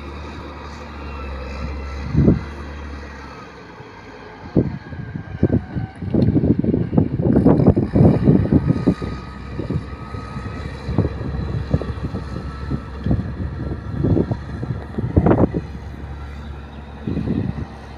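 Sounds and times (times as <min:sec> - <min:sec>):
wind gusting against microphone: 0:01.5 - 0:03.0, 0:04.4 - 0:17.9.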